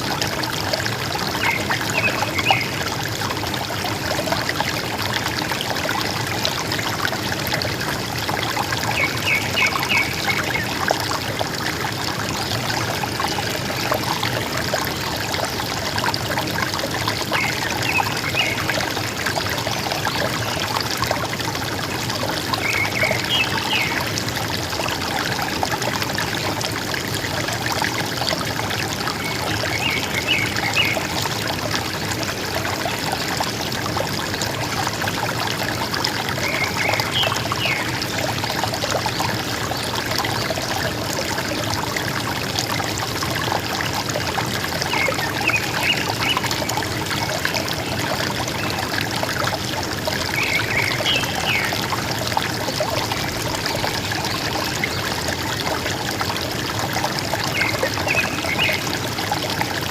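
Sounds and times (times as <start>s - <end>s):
river water gurgling: 0.0s - 59.9s.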